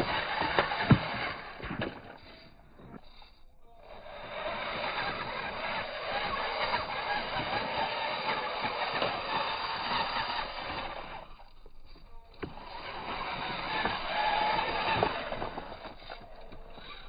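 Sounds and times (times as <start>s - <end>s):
toy car motor whirring: 0.0s - 17.0s
wheels scraping on stones: 0.0s - 17.0s.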